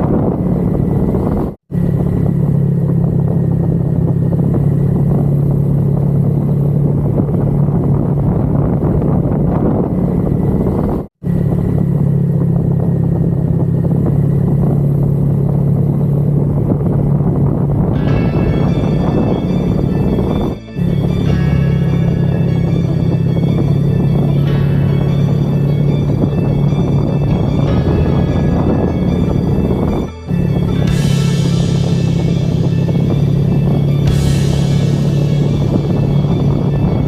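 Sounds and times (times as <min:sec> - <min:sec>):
motorcycle engine running: 0:00.0 - 0:37.0
road and wind noise: 0:00.0 - 0:37.0.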